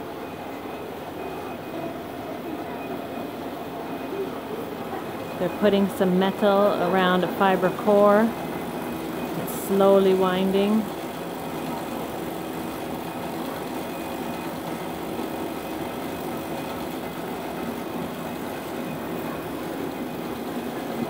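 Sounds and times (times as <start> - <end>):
thread-covering machine running: 0.0 - 21.0.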